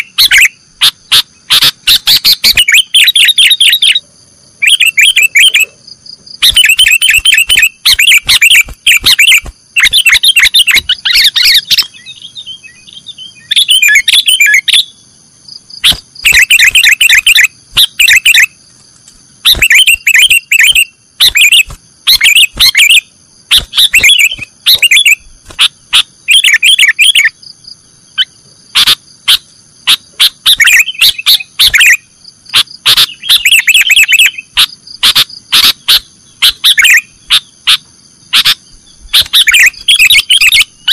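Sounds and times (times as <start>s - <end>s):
bulbul song rapid chirps: 0.0s - 40.9s.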